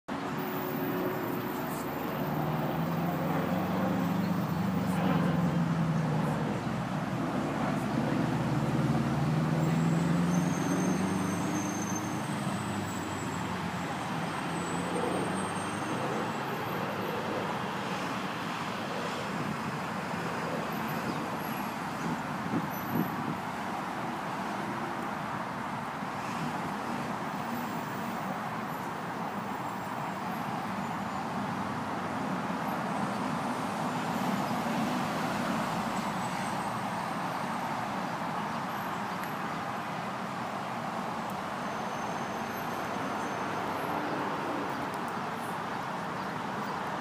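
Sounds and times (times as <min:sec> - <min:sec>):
road traffic: 0:00.0 - 0:47.0.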